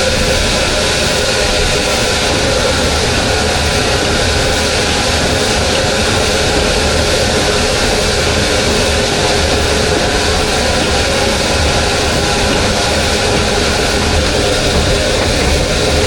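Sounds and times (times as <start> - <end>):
low hum: 0.0 - 16.0
machine engine running: 0.0 - 16.0.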